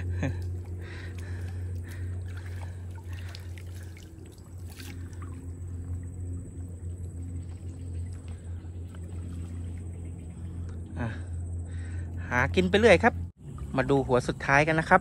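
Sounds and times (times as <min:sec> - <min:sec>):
water trickling and splashing: 0:00.0 - 0:10.9, 0:12.5 - 0:15.0
steady low hum: 0:00.0 - 0:15.0.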